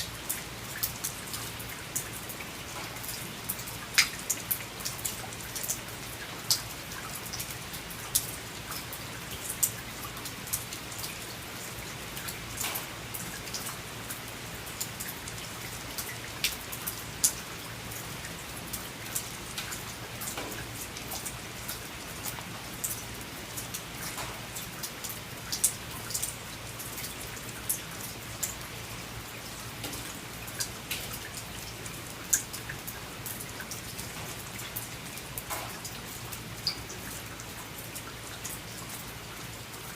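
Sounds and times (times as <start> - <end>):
raindrops striking close by: 0.0 - 39.9
steady hiss of rain: 0.0 - 39.9.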